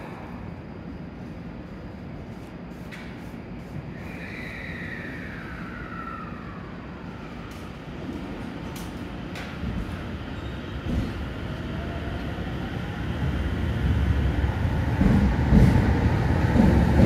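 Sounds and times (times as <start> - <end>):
electric train low rumble: 0.0 - 17.0.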